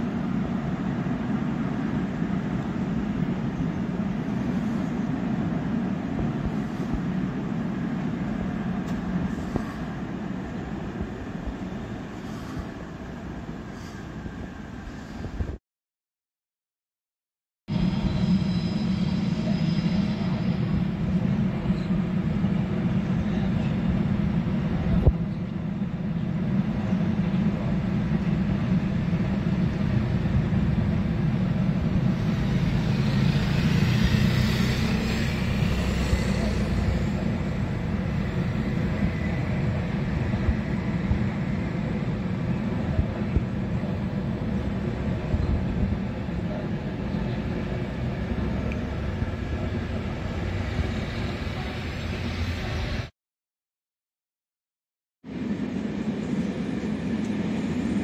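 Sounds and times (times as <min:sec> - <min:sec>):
freight train wheel noise: 0:00.0 - 0:15.6, 0:17.7 - 0:53.1, 0:55.3 - 0:58.0.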